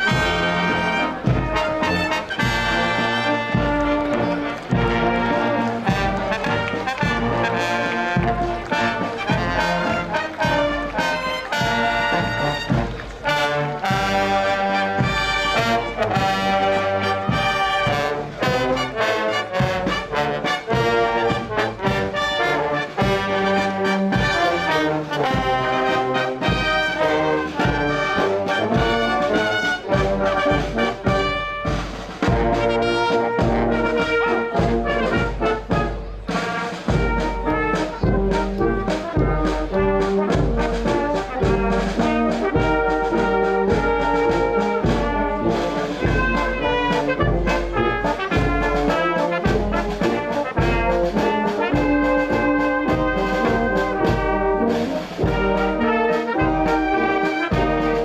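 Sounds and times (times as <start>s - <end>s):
brass band playing march: 0.0s - 58.0s
steady drum beat: 0.0s - 58.0s.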